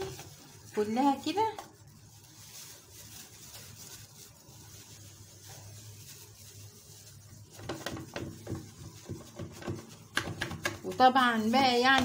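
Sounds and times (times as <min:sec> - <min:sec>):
hands patting pastry: 0:00.0 - 0:12.0
pastry rustling: 0:00.0 - 0:12.0.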